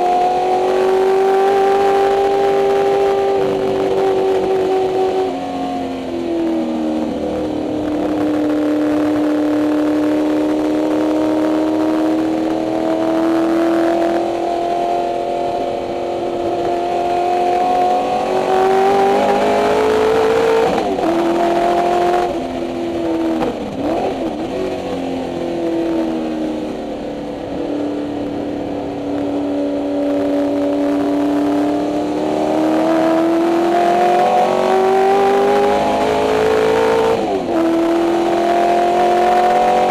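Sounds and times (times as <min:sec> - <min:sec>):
race car engine at speed: 0:00.0 - 0:39.9.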